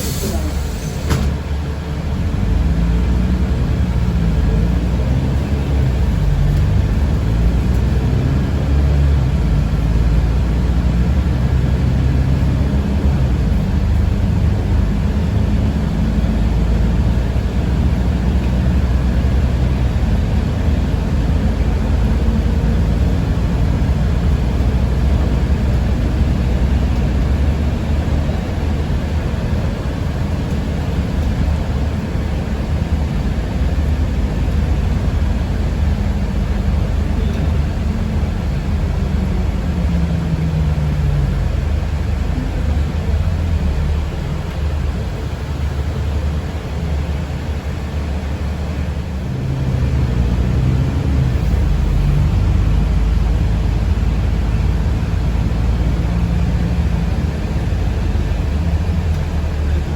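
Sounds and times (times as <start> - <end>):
bus interior drive rumble: 0.0 - 59.9.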